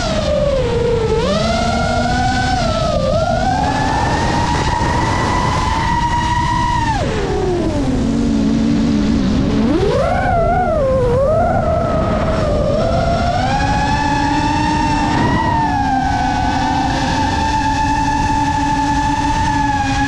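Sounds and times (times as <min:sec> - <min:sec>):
drone motors whining: 0:00.0 - 0:20.0
wind rushing: 0:01.4 - 0:20.0.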